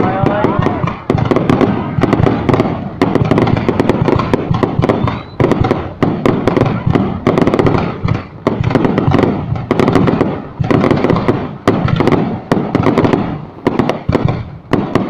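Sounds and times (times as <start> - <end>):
fireworks bangs with rumble: 0.0 - 15.0
sharp crackling pops: 0.0 - 15.0.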